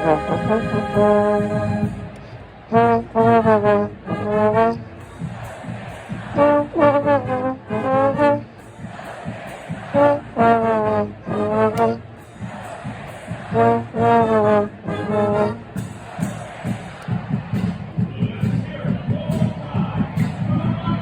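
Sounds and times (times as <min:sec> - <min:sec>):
crowd noise: 0:00.0 - 0:21.0
marching band brass playing: 0:00.0 - 0:21.0.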